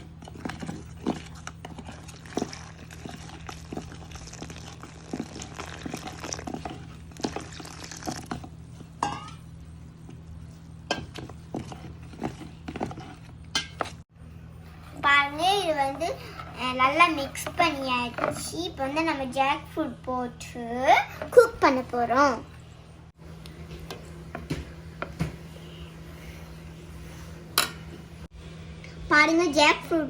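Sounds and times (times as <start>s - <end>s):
batter being mixed in a bowl: 0.0s - 28.3s.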